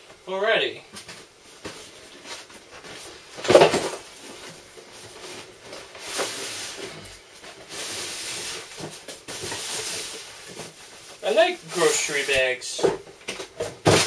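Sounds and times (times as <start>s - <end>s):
packaging rustling and crinkling: 1.0s - 14.0s.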